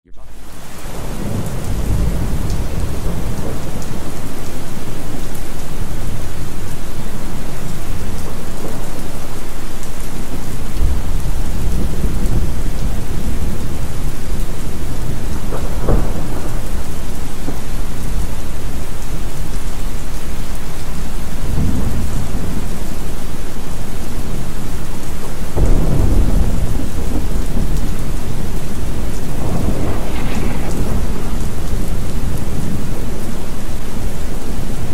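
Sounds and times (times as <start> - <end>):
heavy rain: 0.1 - 34.9
thunder rumbling: 0.2 - 34.9.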